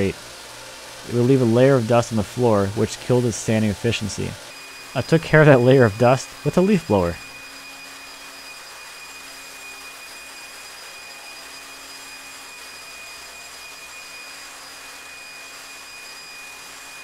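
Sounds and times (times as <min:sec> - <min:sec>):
high motor whine: 0:00.0 - 0:17.0
leaf blower air rush: 0:00.0 - 0:17.0.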